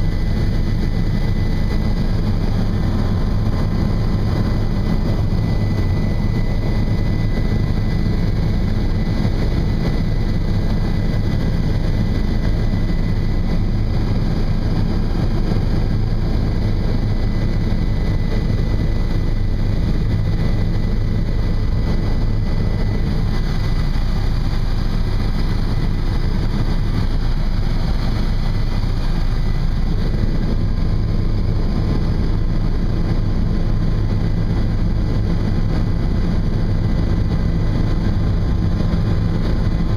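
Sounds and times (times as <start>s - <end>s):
faint high whine: 0.0s - 39.9s
helicopter engine and rotor drone: 0.0s - 39.9s.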